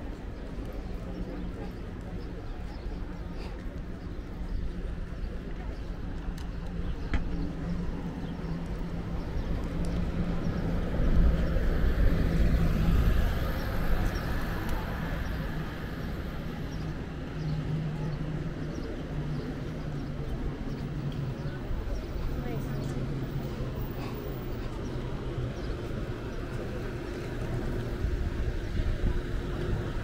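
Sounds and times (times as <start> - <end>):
street noise: 0.0 - 30.0.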